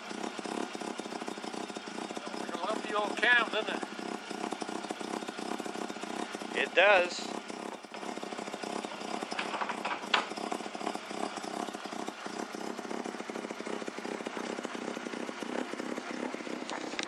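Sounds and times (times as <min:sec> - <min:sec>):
rotary engine idling: 0:00.0 - 0:17.0.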